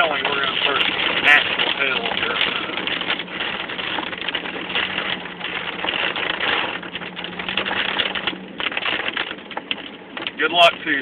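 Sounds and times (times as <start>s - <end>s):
heavy rain on car roof: 0.0s - 11.0s.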